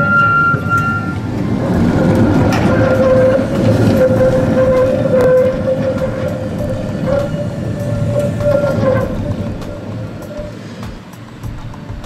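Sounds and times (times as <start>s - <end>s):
steady tone: 0.0s - 12.0s
tram wheels rolling on rails: 0.0s - 12.0s.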